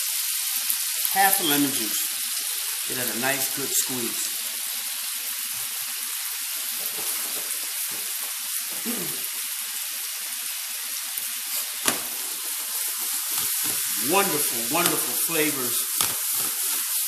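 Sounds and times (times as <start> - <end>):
sauce sizzling in a skillet: 0.0 - 17.0.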